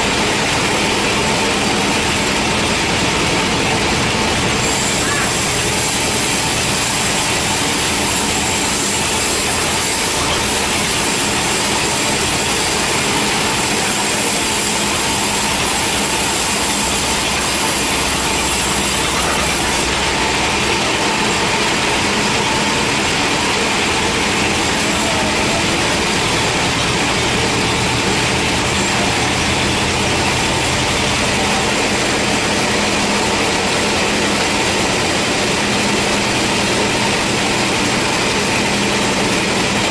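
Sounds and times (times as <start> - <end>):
band saw cutting log: 0.0 - 39.9
sawmill motor: 0.0 - 39.9.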